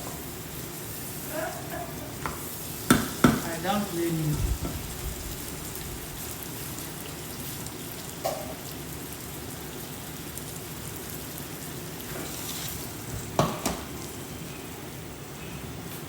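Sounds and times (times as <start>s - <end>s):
rice sizzling in a pan: 0.0s - 16.0s.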